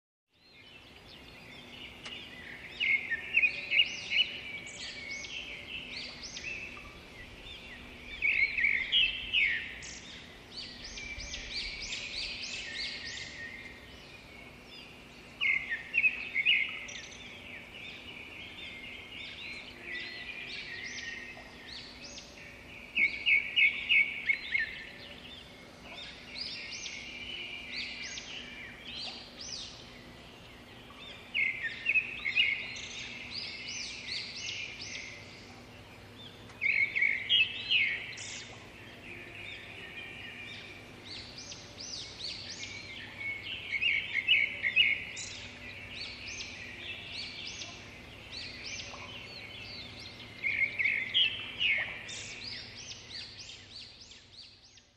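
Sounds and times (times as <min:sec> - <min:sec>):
songbird chirping: 0:00.3 - 0:54.9.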